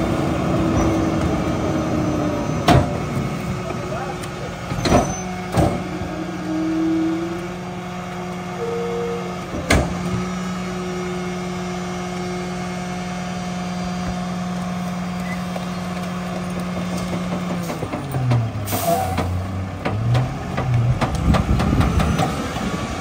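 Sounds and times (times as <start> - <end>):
garbage truck mechanical drone: 0.0 - 23.0.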